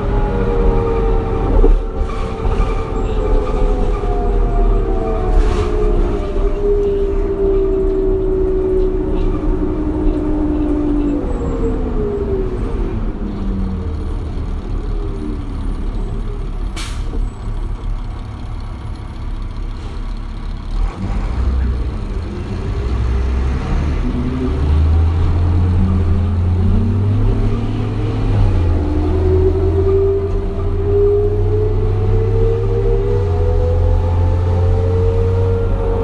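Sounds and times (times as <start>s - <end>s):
bus diesel engine rumbling: 0.0s - 36.0s.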